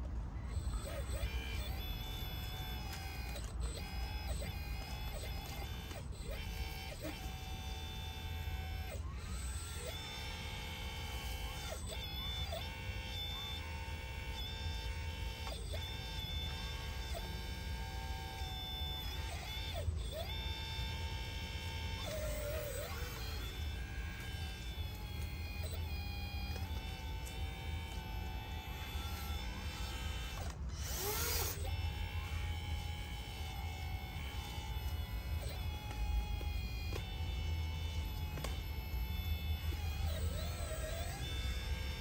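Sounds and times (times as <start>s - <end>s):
hydraulic pump whining: 0.0s - 42.0s.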